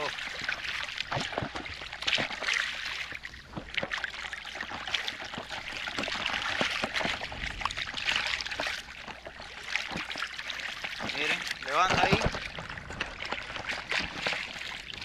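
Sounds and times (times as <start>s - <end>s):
seawater lapping and sloshing: 0.0s - 15.0s
water slaps and splashes: 0.0s - 15.0s.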